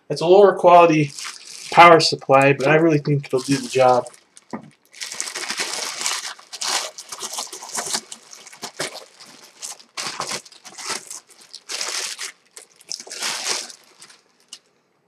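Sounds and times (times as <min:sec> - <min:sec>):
plastic bag crinkling: 0:01.0 - 0:14.7.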